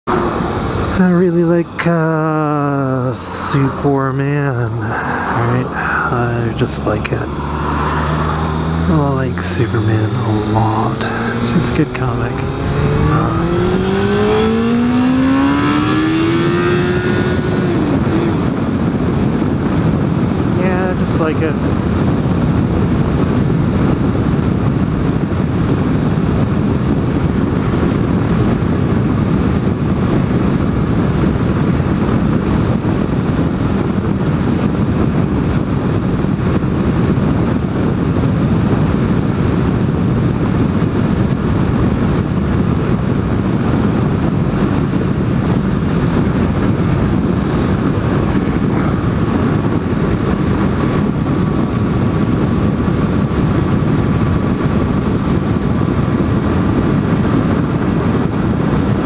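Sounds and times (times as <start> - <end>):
motorcycle engine and wind noise: 0.0 - 59.0.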